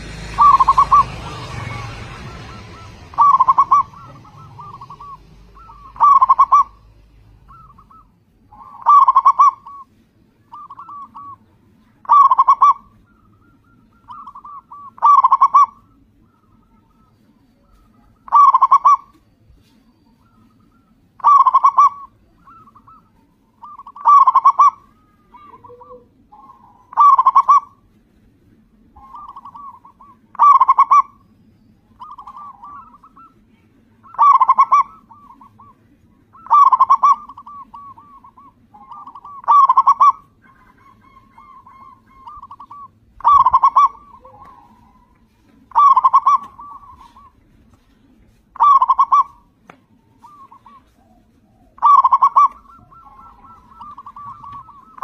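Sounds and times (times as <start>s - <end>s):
rolling trill of coos: 0.0s - 19.2s, 28.7s - 31.3s, 31.9s - 55.0s
dove cooing: 0.0s - 55.0s.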